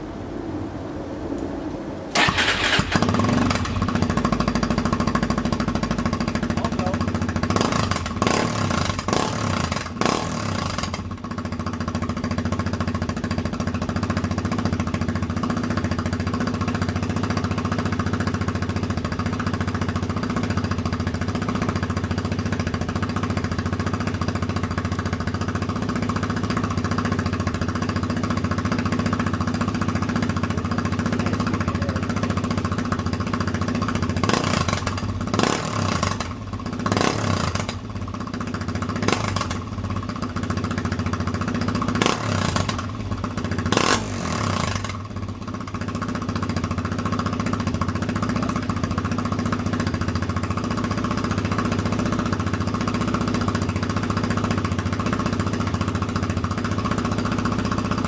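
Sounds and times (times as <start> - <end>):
quad engine revving and idling: 2.1 - 58.0.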